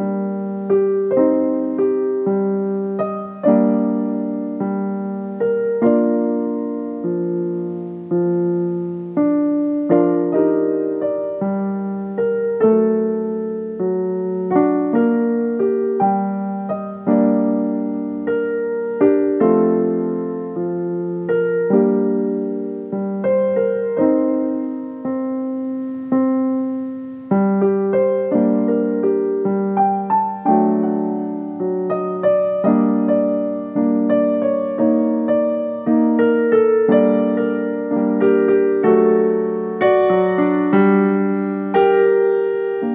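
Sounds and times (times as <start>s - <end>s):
solo piano: 0.0s - 42.9s.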